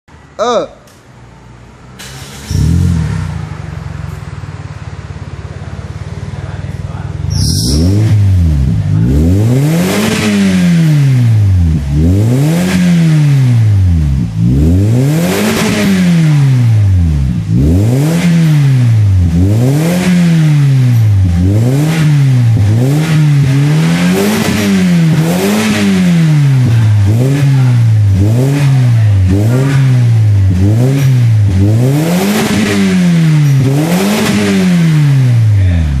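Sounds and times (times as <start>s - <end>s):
car engine revving: 1.1s - 36.0s.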